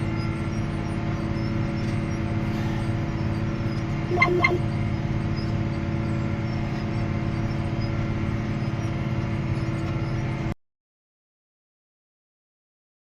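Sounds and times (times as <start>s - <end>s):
tractor diesel engine under load: 0.0s - 10.5s.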